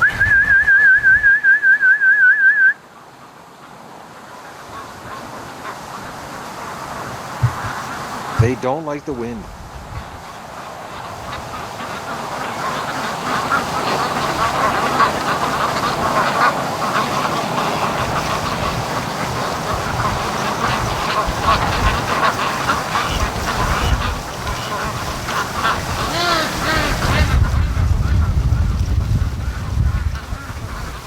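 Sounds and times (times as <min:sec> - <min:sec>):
ducks quacking: 0:03.1 - 0:09.4, 0:10.0 - 0:31.0
wind gusting on microphone: 0:05.7 - 0:31.0.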